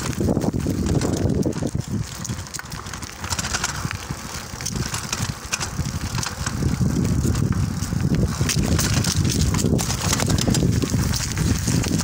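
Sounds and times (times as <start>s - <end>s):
bike clicks and rattles: 0.0s - 12.0s
bike tyres rolling on concrete: 0.0s - 12.0s
wind buffeting microphone: 0.0s - 12.0s.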